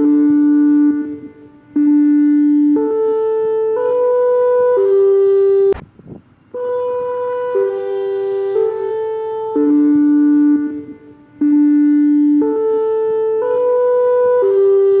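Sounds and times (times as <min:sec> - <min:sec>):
emergency alert tones: 0:00.0 - 0:15.0.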